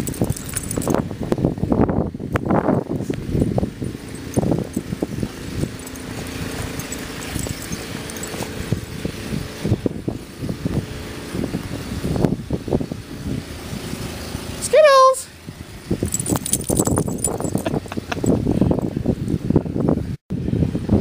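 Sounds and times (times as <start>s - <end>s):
low thumps and rumbles: 0.0s - 13.4s, 15.8s - 20.1s
engine running: 0.0s - 14.6s, 15.3s - 20.9s.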